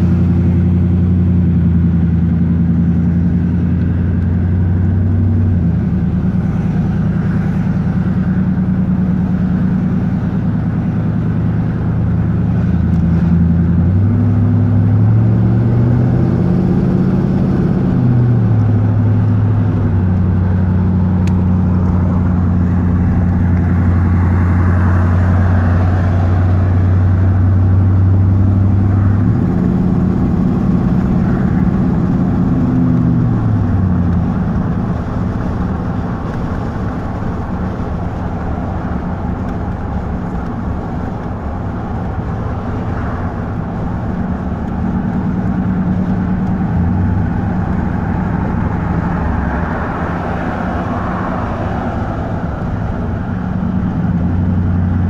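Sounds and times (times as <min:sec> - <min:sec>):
truck exhaust drone: 0:00.0 - 0:55.0.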